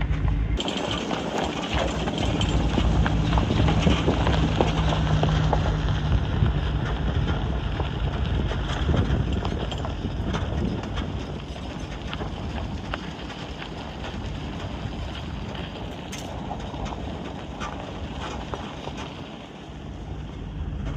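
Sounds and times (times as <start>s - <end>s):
low engine hum: 0.0s - 20.9s
tyres crunching over gravel: 0.0s - 20.9s
small rattles: 0.6s - 19.6s.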